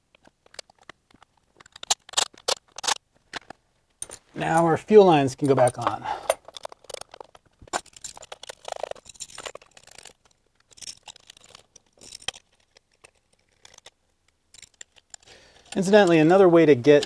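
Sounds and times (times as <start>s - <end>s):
metal clicks and scrapes: 0.0s - 17.0s.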